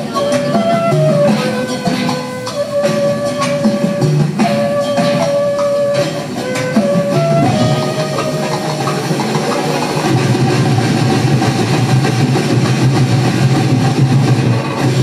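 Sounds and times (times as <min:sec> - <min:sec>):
tribal drum ensemble: 0:00.0 - 0:15.0.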